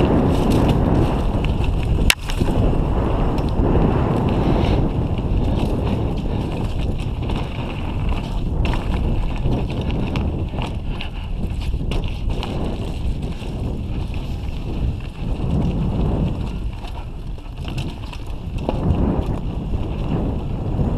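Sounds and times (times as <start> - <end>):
bike clicks and rattles: 0.0 - 20.9
tyres rumbling on dirt: 0.0 - 20.9
wind on microphone: 0.0 - 20.9.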